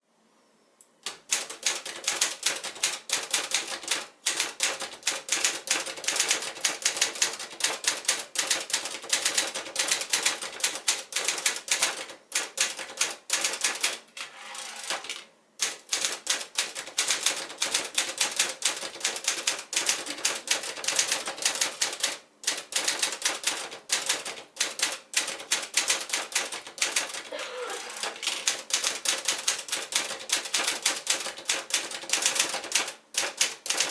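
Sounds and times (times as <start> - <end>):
typewriter keystrokes clacking: 1.0 - 14.0, 14.8 - 27.3, 28.0 - 33.9.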